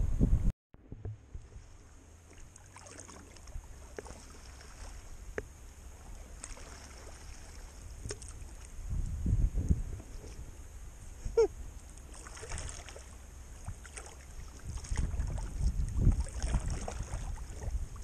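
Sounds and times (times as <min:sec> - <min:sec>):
water lapping against kayak hull: 0:00.8 - 0:18.0.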